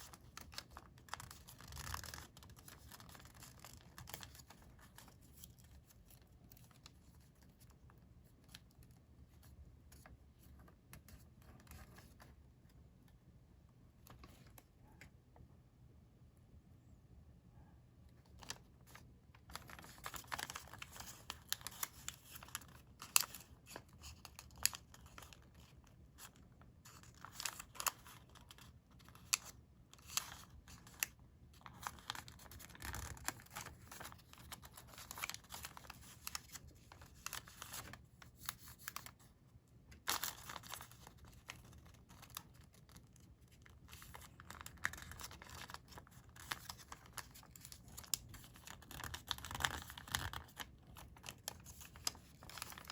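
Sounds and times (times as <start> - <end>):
paper rustling and crinkling: 0.0 - 12.4, 18.2 - 52.9.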